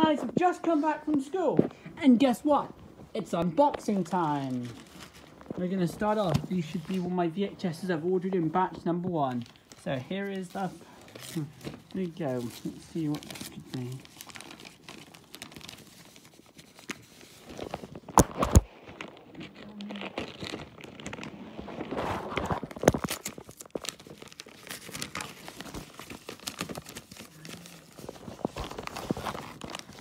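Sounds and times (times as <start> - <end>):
plastic packaging crinkling and tearing: 0.0 - 30.0.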